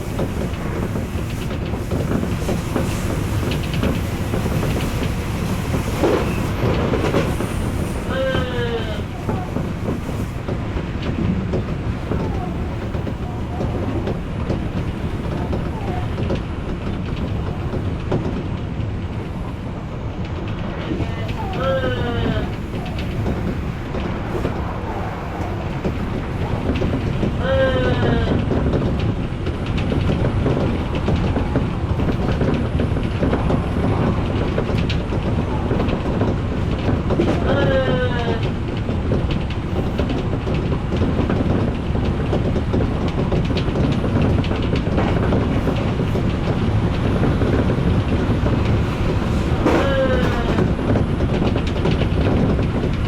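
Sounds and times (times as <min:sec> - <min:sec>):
rail joint clicks: 0:00.0 - 0:53.0
train wheels rumbling on rail: 0:00.0 - 0:53.0.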